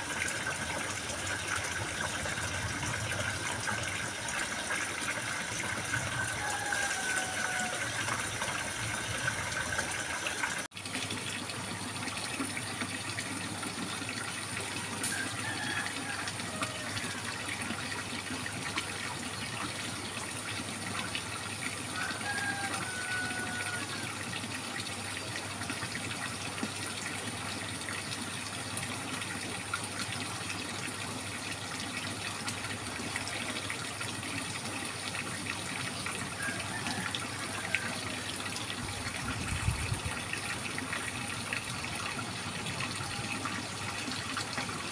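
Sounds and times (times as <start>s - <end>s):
water trickling and splashing: 0.0s - 44.9s.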